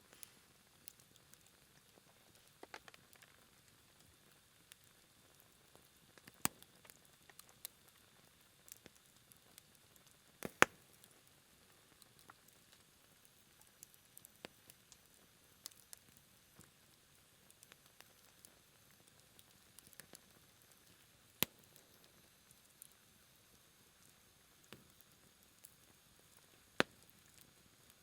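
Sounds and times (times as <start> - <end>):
campfire crackling and popping: 0.0 - 28.0
faint hiss: 0.0 - 28.0
light rain pattering on a tent: 0.0 - 28.0.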